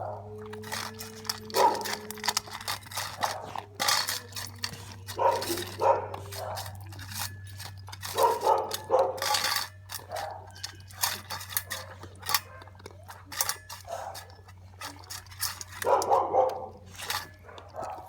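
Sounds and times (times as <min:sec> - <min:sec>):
puppy barking: 0:00.0 - 0:18.0.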